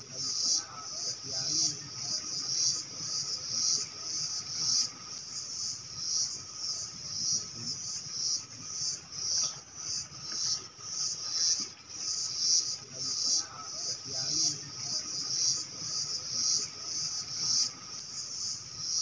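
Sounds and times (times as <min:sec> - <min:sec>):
pulsing insect chorus: 0:00.0 - 0:19.0.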